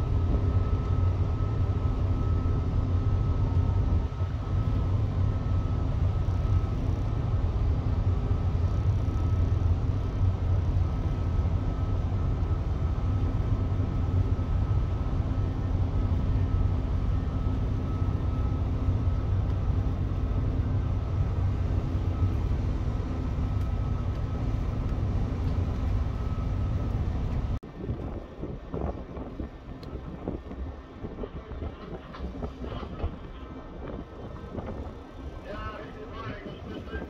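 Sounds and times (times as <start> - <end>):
boat engine drone: 0.0 - 37.0
faint steady whine: 0.0 - 37.0.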